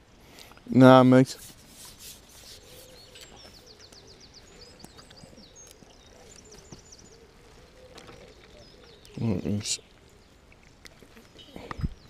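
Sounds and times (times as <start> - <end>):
outdoor background hiss: 0.0 - 12.0
songbird chirping and trilling: 2.2 - 12.0.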